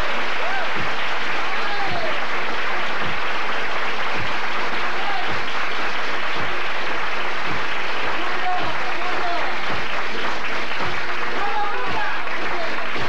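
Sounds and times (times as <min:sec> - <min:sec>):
dense hand clapping: 0:00.0 - 0:13.0.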